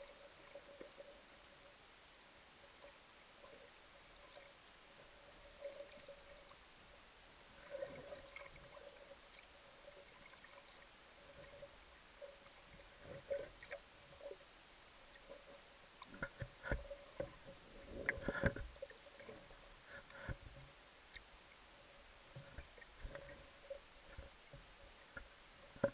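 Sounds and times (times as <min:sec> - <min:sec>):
faint underwater hum: 0:00.0 - 0:25.9.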